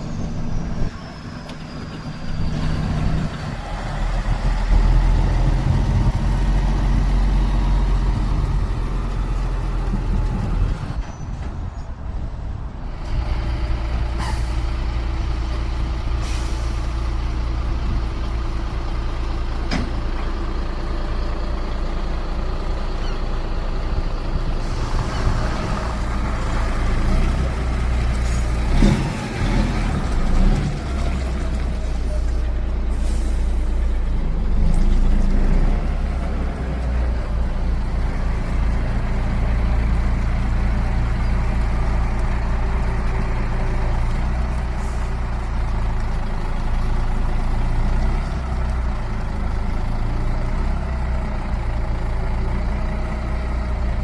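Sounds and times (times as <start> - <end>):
truck diesel engine rumbling: 0.0 - 54.0.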